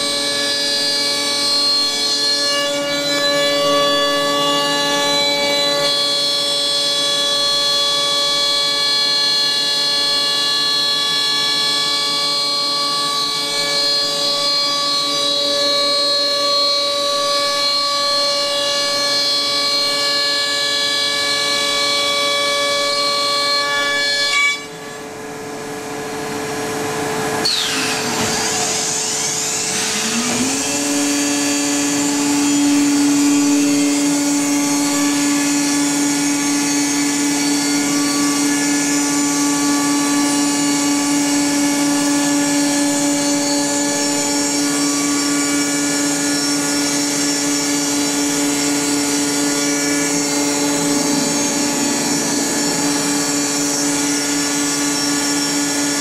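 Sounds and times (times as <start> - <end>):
router spindle whining: 0.0 - 23.5, 24.6 - 56.0.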